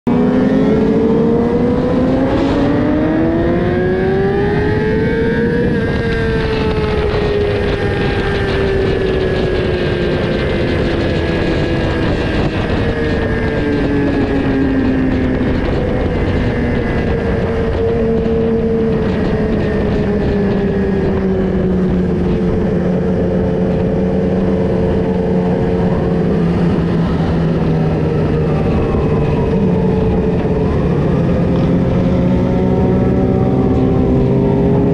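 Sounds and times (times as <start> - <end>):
motorcycle engine accelerating: 0.0 - 34.9
constant rushing noise: 0.1 - 34.9
other motorcycle engines: 0.1 - 34.9.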